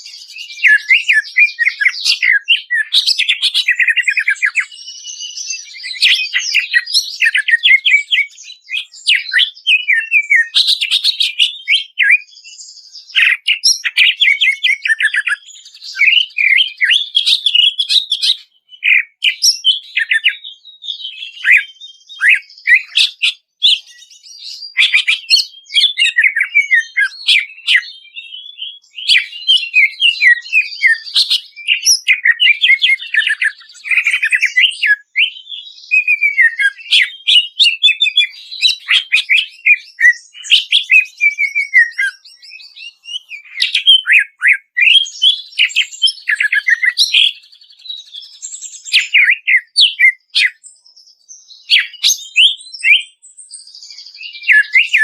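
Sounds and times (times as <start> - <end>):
bird singing with chirps and trills: 0.0 - 55.0.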